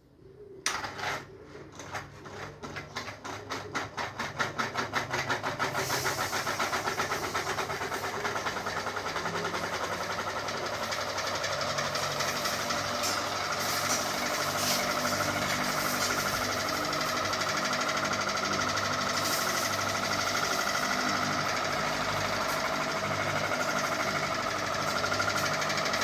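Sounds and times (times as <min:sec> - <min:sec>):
ceiling fan knocking and whirring: 0:00.6 - 0:26.0.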